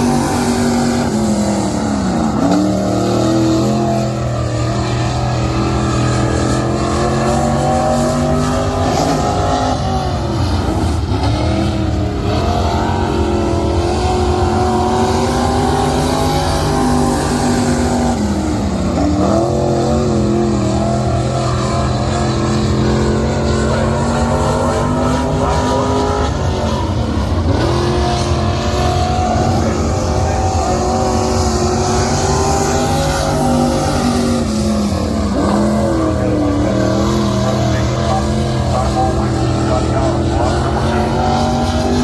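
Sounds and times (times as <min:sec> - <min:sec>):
race car engine revving: 0:00.0 - 0:42.0.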